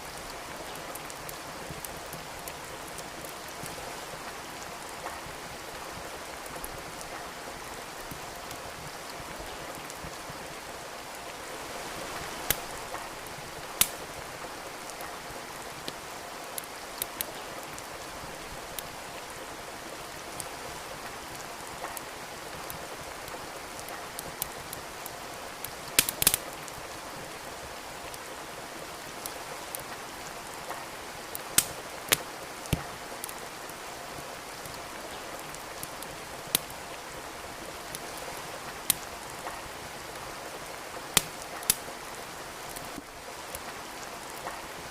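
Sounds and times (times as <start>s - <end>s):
steady rain: 0.0s - 44.9s
wood fire crackling and popping: 0.1s - 11.4s, 12.1s - 44.9s.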